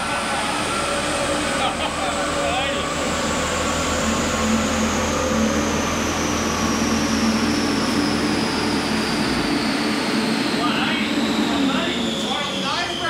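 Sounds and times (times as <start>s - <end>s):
engine and rollers droning: 0.0s - 13.0s
high whine falling in pitch: 0.0s - 13.0s.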